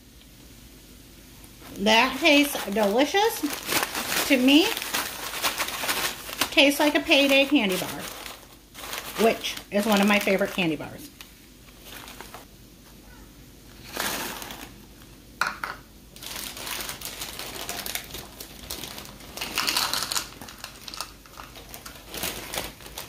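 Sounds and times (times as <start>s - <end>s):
paper bags crinkling: 1.6s - 12.5s, 13.8s - 15.1s, 16.1s - 23.0s.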